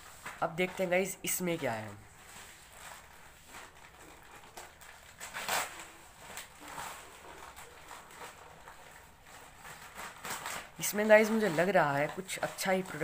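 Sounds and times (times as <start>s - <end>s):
plastic mailer bag crinkling: 0.0s - 13.0s.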